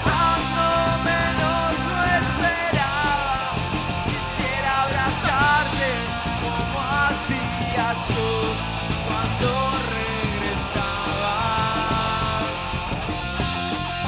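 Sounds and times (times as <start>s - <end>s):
person singing: 0.0s - 12.9s
electric guitar: 0.0s - 14.0s
rock band playing live: 0.0s - 14.0s.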